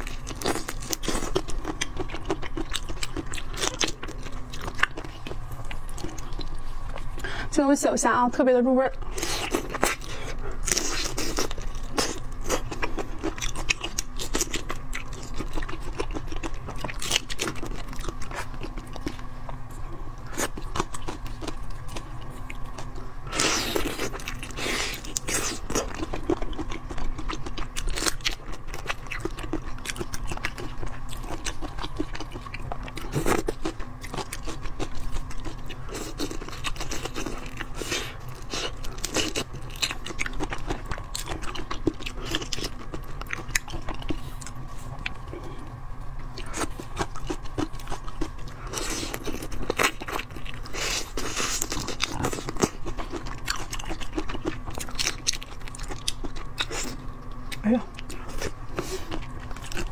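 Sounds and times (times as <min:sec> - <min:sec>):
chewing shrimp shells: 0:00.0 - 0:07.3, 0:09.0 - 0:59.9.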